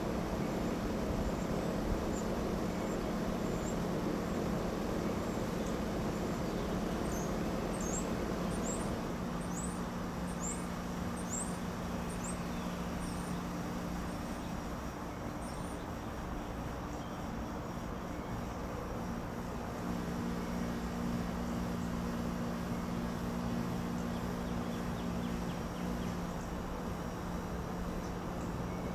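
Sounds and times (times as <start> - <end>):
small birds chirping: 0.1 - 18.4, 20.5 - 26.7.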